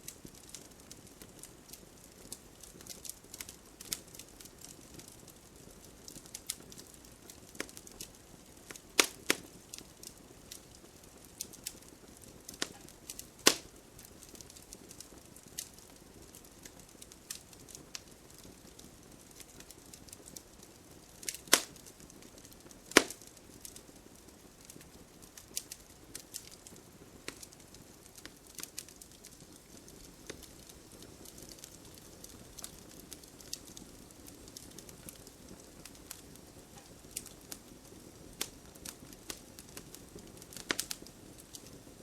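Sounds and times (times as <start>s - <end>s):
campfire hissing: 0.0s - 42.0s
fire pops and snaps: 0.0s - 42.0s.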